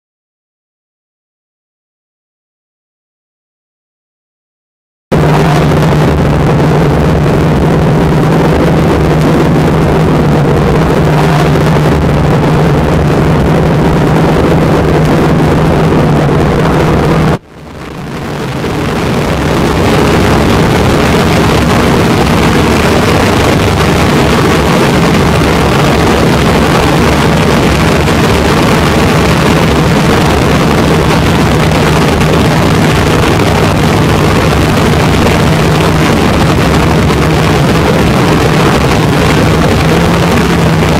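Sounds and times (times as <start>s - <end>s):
car engine idling: 5.1s - 40.9s.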